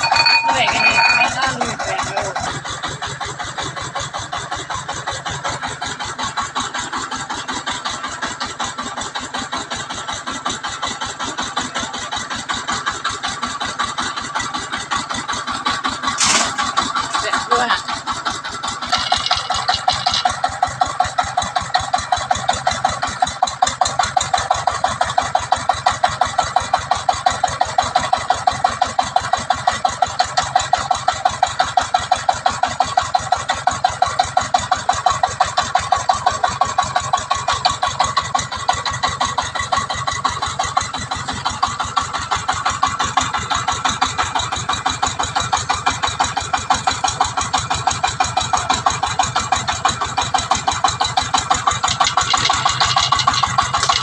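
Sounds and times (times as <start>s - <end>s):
diesel engine chugging: 0.0s - 54.0s.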